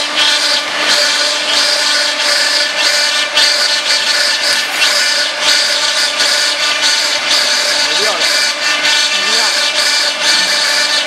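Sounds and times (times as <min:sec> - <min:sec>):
filling machine humming: 0:00.0 - 0:11.0
short machine strokes: 0:00.0 - 0:11.0.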